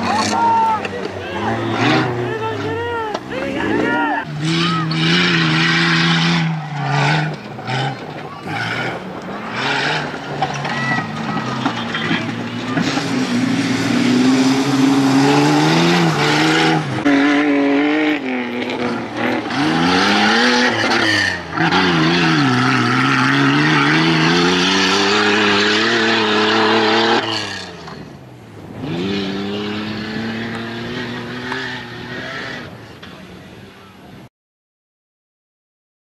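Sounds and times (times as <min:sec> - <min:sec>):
race car engine revving: 0:00.0 - 0:33.5.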